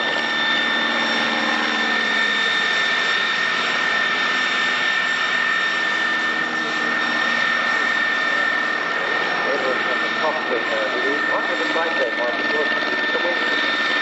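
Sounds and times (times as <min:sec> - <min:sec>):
piston aircraft engines droning: 0:00.0 - 0:14.0.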